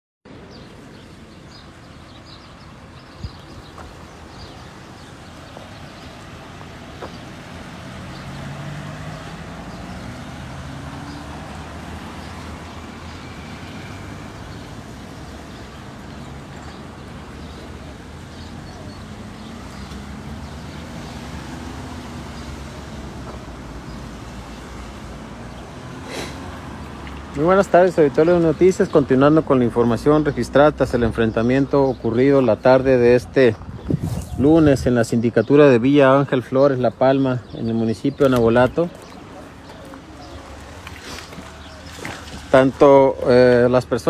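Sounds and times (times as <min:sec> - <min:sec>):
motor vehicles passing: 0:00.5 - 0:44.0.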